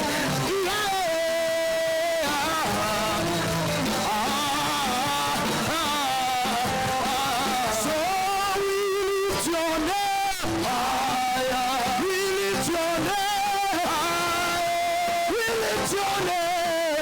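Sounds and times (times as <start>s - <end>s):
guitar accompaniment: 0.0s - 17.0s
person singing with vibrato: 0.0s - 17.0s.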